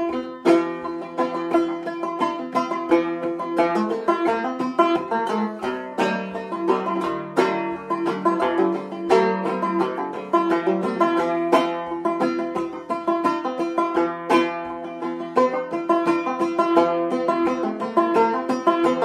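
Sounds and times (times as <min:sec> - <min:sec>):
banjo plucked notes: 0:00.0 - 0:19.0.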